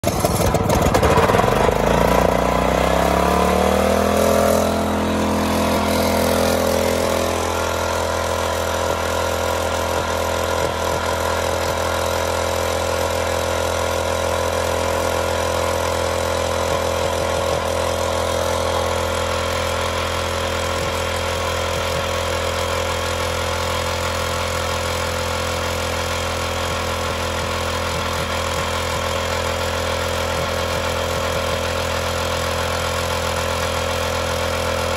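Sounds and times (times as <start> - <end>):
drill bit cutting asphalt: 0.0 - 34.9
small petrol engine of a drill: 0.0 - 34.9.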